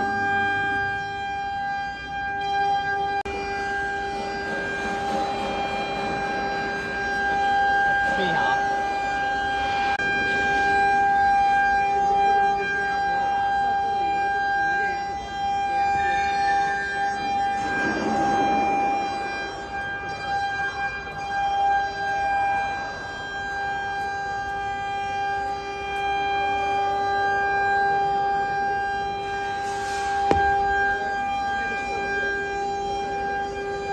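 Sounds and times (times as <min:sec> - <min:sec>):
spindle high whine: 0:00.0 - 0:33.9.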